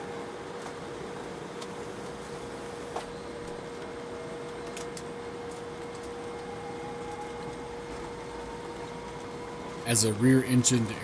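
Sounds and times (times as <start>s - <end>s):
cabin rumble and hiss: 0.0s - 11.0s
faint rising whine: 0.0s - 11.0s
muted jet engines: 0.0s - 11.0s
steady hum: 0.0s - 11.0s.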